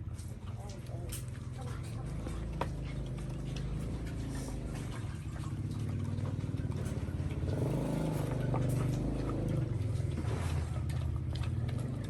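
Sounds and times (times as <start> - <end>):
engine running: 1.4 - 12.0.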